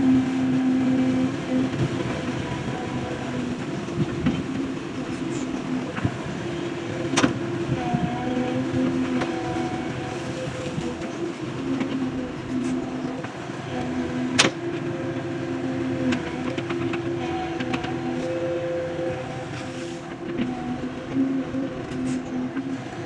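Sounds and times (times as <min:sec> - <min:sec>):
diesel engine running: 0:00.0 - 0:23.0
hydraulic whine: 0:00.0 - 0:23.0.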